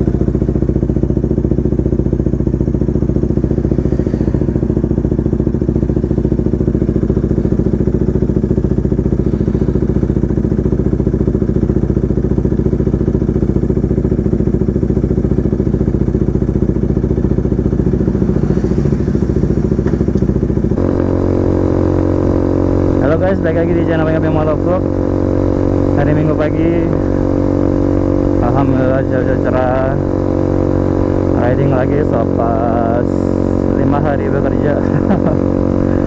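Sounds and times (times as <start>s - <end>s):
motorcycle engine idling: 0.0s - 36.0s.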